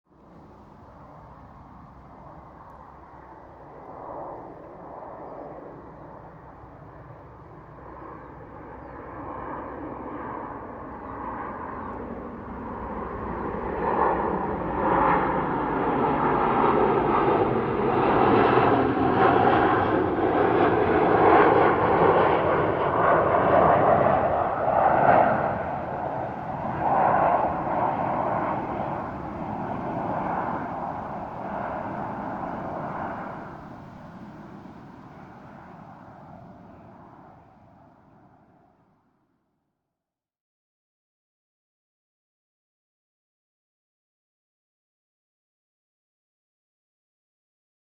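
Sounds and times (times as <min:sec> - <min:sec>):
jet airliner engine roar: 0:00.1 - 0:39.0.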